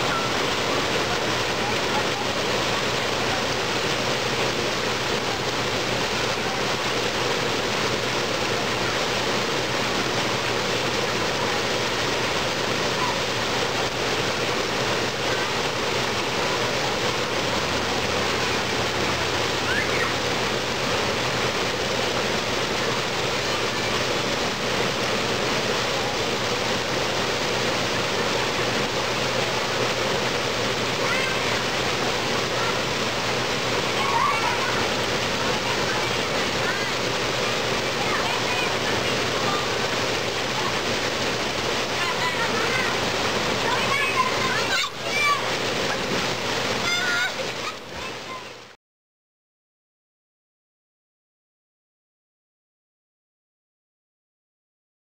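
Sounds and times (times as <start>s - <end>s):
water pouring and splashing into pool: 0.0s - 48.8s.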